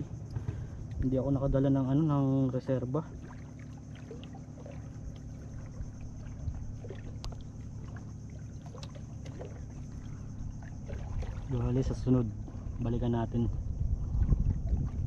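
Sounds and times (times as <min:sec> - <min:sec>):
steady low hum: 0:00.0 - 0:15.0
water lapping against wooden hull: 0:00.0 - 0:15.0.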